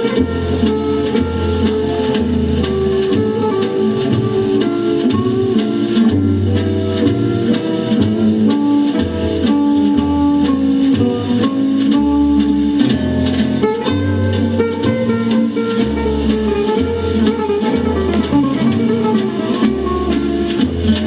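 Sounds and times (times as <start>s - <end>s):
drum kit beat: 0.0s - 21.0s
plucked guitar: 0.0s - 21.0s
walking bass line: 0.0s - 21.0s.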